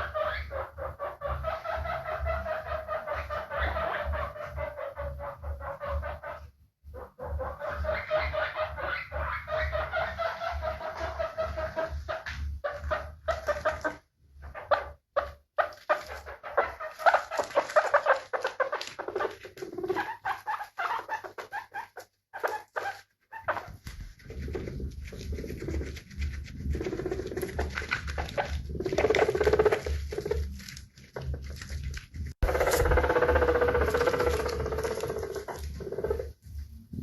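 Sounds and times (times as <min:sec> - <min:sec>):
guinea pig rapid short calls: 0:00.0 - 0:30.8, 0:31.5 - 0:36.4.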